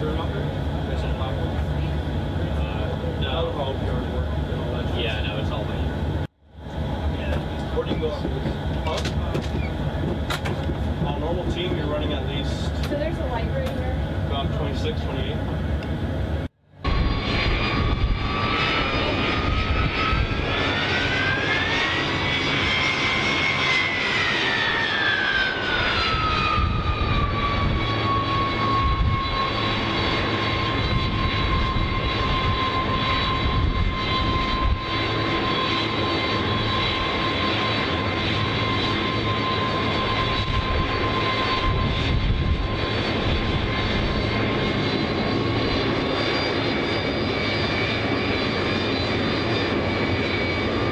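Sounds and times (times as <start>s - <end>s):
jet engines running: 0.0s - 50.9s
turbine whine: 0.0s - 50.9s.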